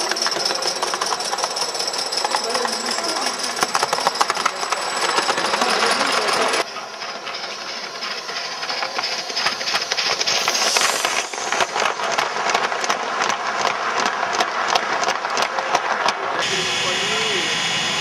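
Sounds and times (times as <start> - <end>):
steam hissing: 0.0 - 14.0, 16.3 - 18.0
wheels clicking on track: 0.0 - 16.4.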